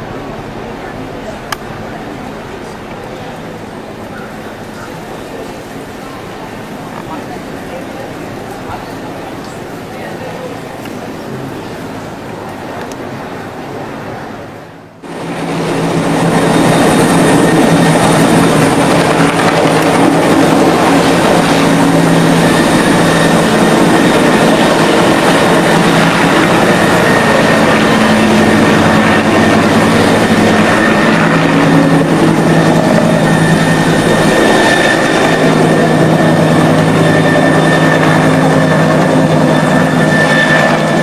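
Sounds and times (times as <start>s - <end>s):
loud engine drone: 0.0s - 41.0s.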